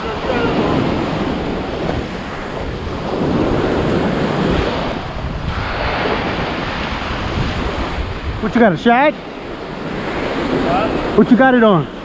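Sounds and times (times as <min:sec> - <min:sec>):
surf breaking on sand: 0:00.0 - 0:12.0
wind rumbling on microphone: 0:00.0 - 0:12.0.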